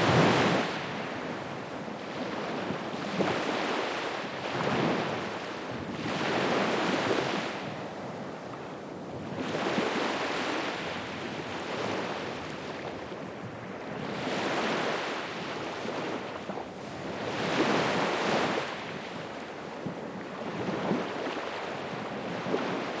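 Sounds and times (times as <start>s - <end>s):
waves breaking on shore: 0.0s - 23.0s.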